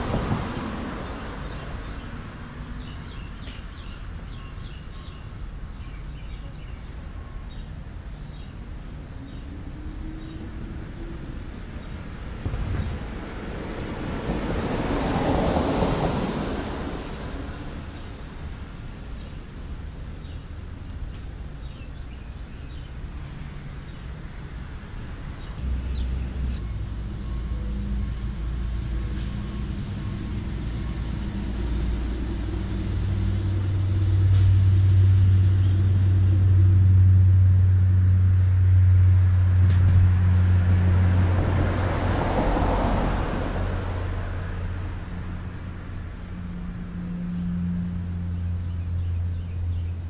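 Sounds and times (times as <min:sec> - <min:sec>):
large vehicle engine rumble: 0:00.0 - 0:50.0.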